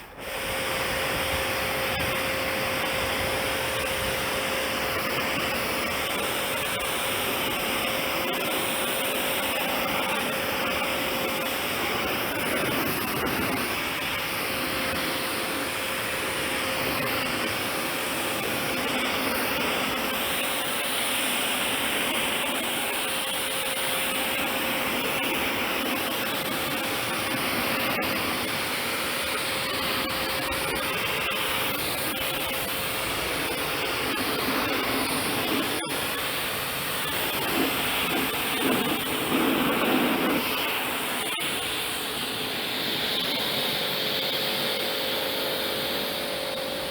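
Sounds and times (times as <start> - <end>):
pressure washer jet hissing: 0.0 - 46.9.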